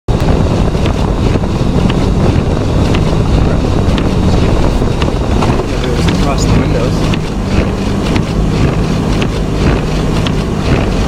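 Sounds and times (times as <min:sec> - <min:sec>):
heavy wind buffeting microphone: 0:00.1 - 0:11.0
vehicle engine running: 0:00.1 - 0:11.0.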